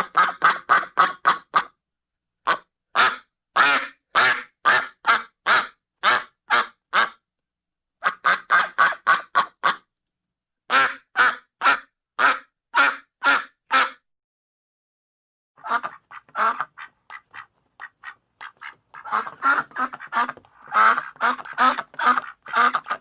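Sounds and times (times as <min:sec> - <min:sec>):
duck quacking rapidly: 0:00.0 - 0:01.8, 0:02.5 - 0:07.2, 0:08.0 - 0:09.9, 0:10.7 - 0:14.0, 0:15.6 - 0:23.0.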